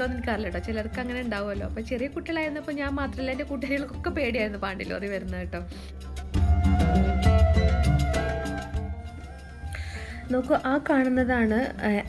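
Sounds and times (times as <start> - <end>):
instrumental music with low beat: 0.9 - 12.0.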